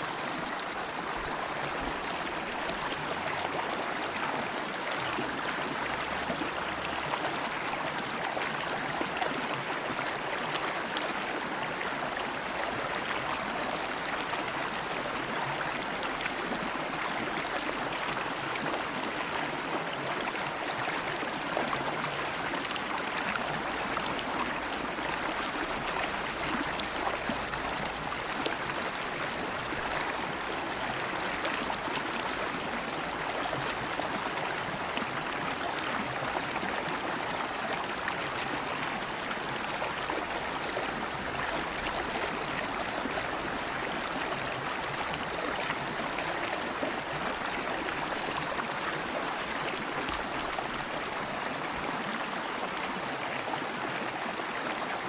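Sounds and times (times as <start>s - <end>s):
river water flowing over stones: 0.0s - 55.0s.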